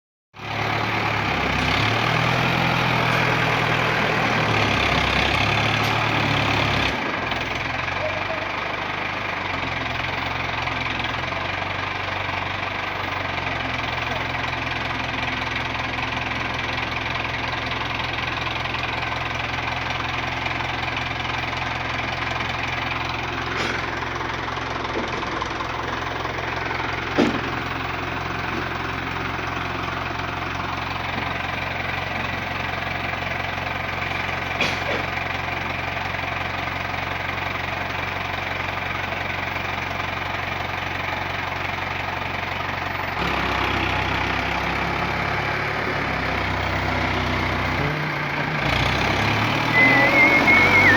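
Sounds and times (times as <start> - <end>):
engine running: 0.4 - 50.9.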